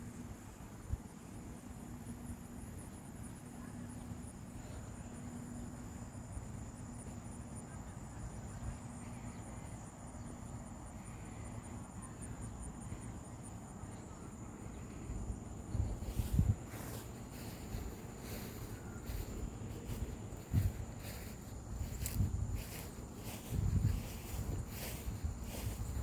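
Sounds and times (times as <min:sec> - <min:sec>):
insects trilling: 0:00.0 - 0:26.0
pulsing insect chirp: 0:00.0 - 0:26.0.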